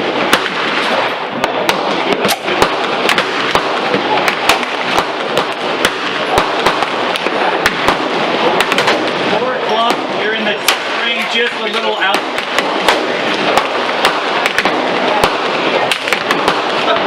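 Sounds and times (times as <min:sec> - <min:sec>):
gunshots: 0:00.0 - 0:17.0.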